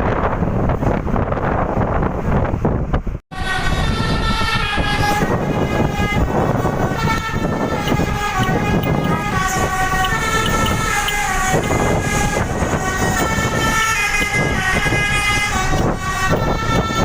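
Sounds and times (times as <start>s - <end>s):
bus engine running: 0.0s - 17.0s
musical air horns playing a tune: 3.3s - 17.0s.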